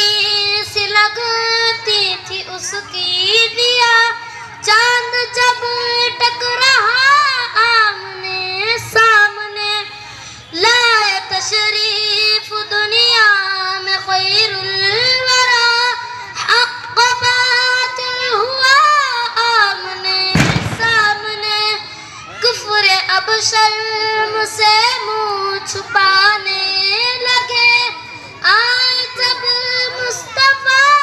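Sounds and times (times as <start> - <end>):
boy singing into a microphone: 0.0 - 31.0.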